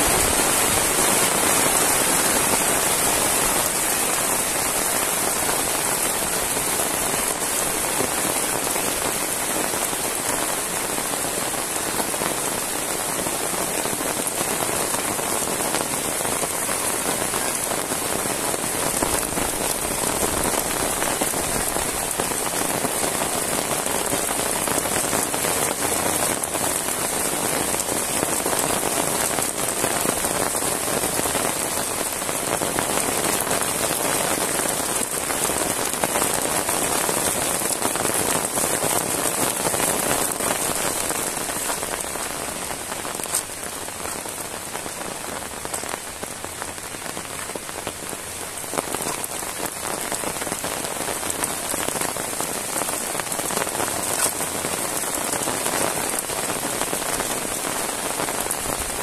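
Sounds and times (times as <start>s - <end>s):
heavy rain on a road: 0.0s - 59.0s.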